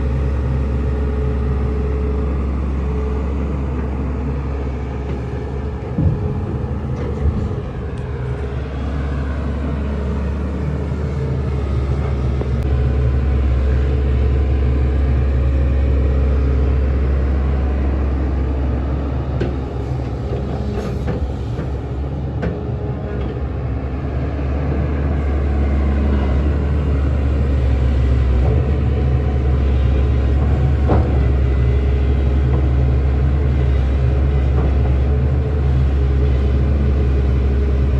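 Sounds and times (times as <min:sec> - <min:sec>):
excavator diesel engine droning: 0:00.0 - 0:37.9.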